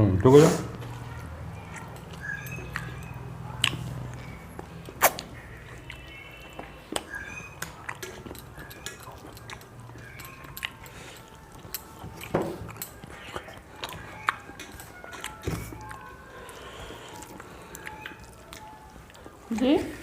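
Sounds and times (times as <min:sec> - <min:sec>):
chewing and mouth smacking: 0:00.7 - 0:20.0.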